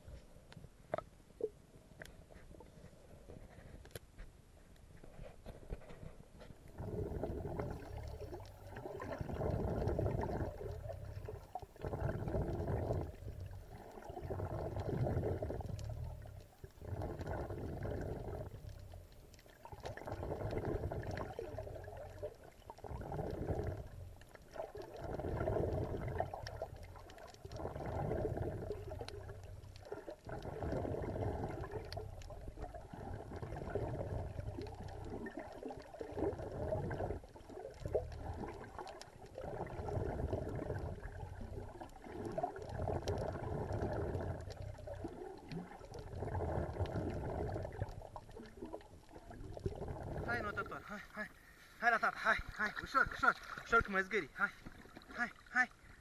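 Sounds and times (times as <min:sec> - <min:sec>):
muffled water sloshing underwater: 0:00.0 - 0:56.0.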